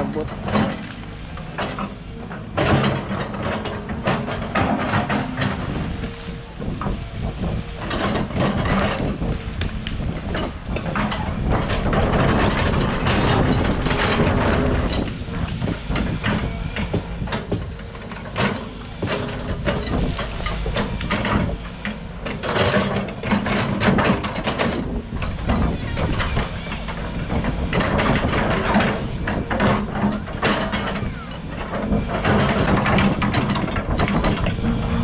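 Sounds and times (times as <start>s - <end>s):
backhoe engine running: 0.0s - 35.0s
knocks and clanks: 0.0s - 35.0s.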